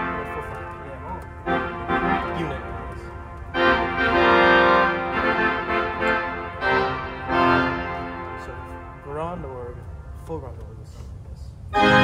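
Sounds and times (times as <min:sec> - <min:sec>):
pipe organ chords: 0:00.0 - 0:10.2, 0:11.7 - 0:12.0.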